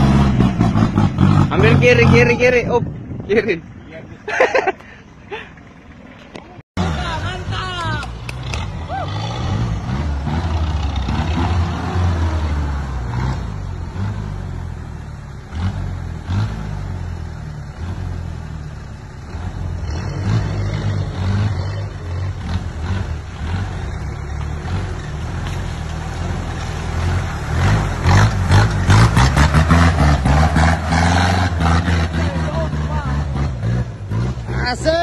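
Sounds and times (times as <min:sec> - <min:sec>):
off-road engines revving: 0:00.0 - 0:35.0.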